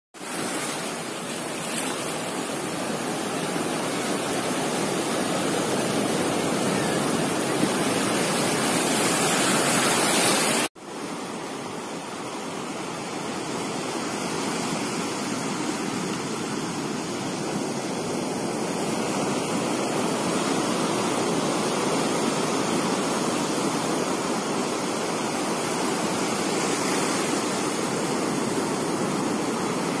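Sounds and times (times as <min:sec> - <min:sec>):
waves breaking on sandy shore: 0:00.2 - 0:30.0.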